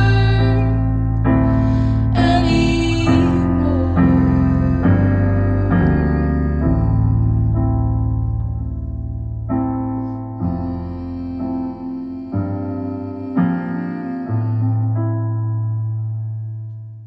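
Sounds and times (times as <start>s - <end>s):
sustained piano chords: 0.0s - 17.0s.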